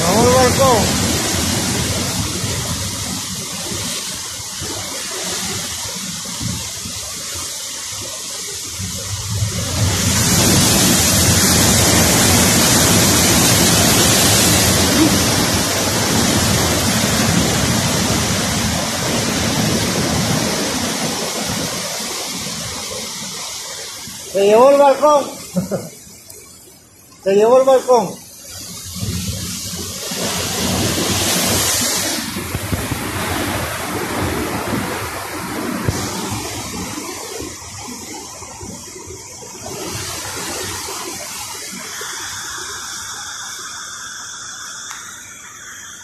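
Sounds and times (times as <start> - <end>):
storm surf breaking: 0.0 - 26.0, 27.2 - 46.0.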